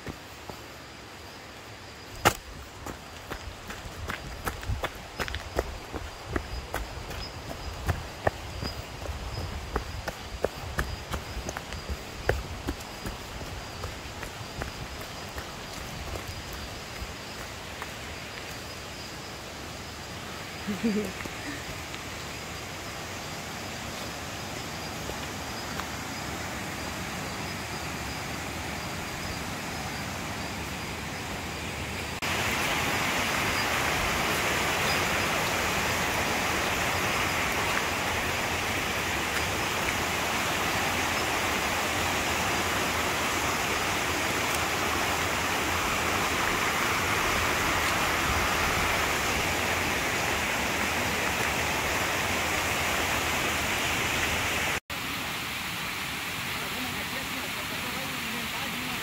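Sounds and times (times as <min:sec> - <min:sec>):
forest stream and waterfall rushing: 0:00.0 - 0:59.0.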